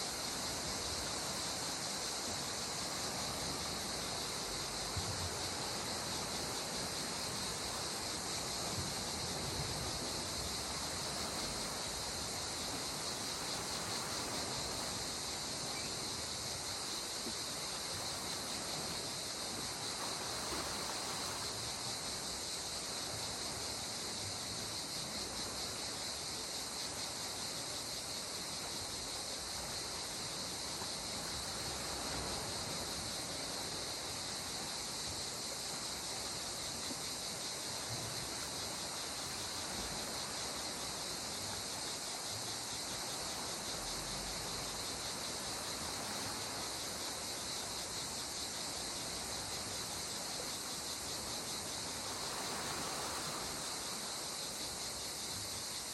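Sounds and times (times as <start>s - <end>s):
calm sea water: 0.0s - 55.9s
insects trilling: 0.0s - 55.9s.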